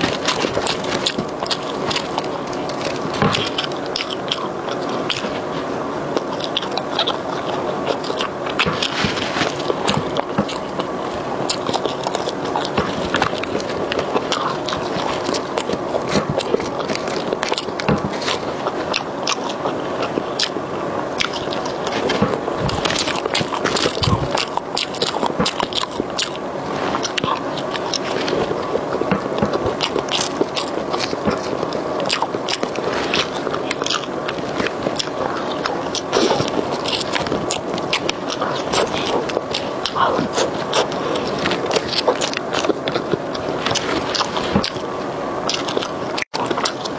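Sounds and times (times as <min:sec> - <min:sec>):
close chewing with mouth sounds: 0:00.0 - 0:46.9.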